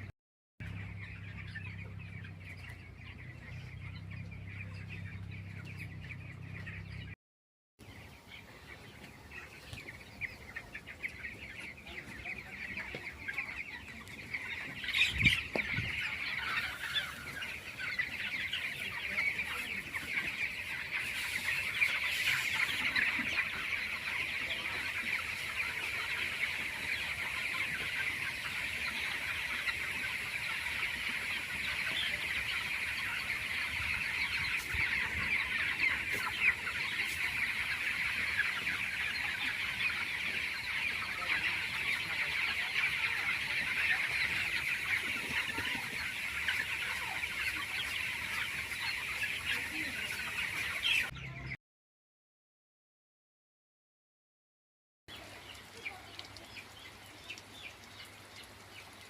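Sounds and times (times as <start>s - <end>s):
chickens clucking and chirping: 0.0s - 7.2s, 7.8s - 51.6s, 55.1s - 59.0s.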